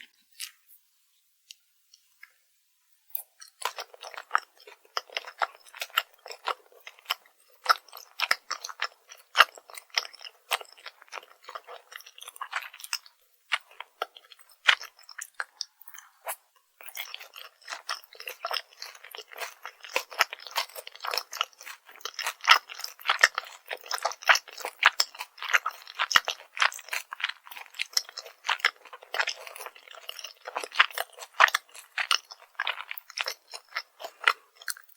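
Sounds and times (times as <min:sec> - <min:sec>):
crunching and chewing crispy food: 0:00.0 - 0:00.7, 0:03.1 - 0:34.9.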